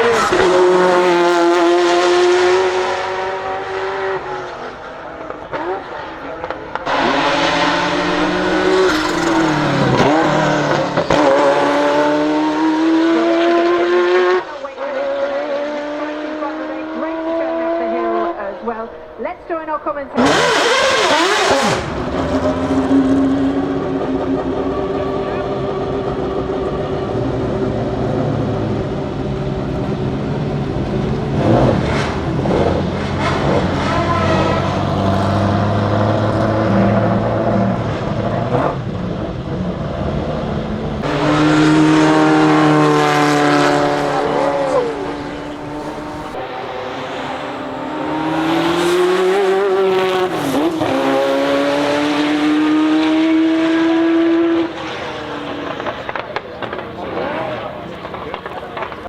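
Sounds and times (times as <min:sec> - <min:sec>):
sports car engine revving: 0:00.0 - 0:19.1, 0:20.2 - 0:59.0.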